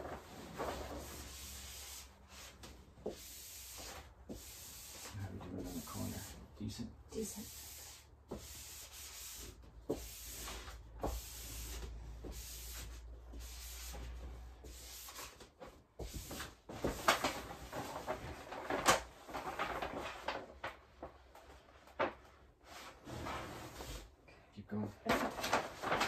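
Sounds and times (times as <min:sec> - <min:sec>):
wallpaper rubbing strokes: 0:00.0 - 0:06.5, 0:07.1 - 0:20.4, 0:21.0 - 0:24.1.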